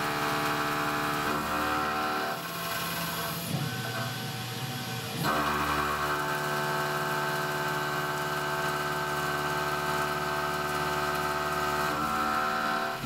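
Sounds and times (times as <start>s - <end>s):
milling machine cutting steel: 0.0s - 13.0s.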